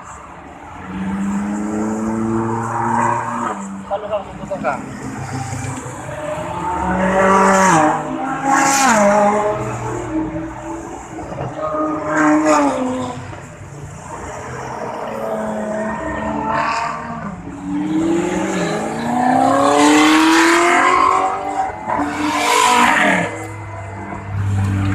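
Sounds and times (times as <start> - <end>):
supercar engines revving past: 0.8 - 3.9, 4.6 - 24.9.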